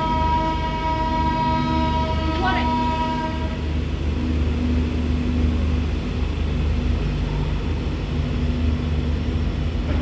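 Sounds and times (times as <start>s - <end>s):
electric train rumbling and humming: 0.0s - 10.0s.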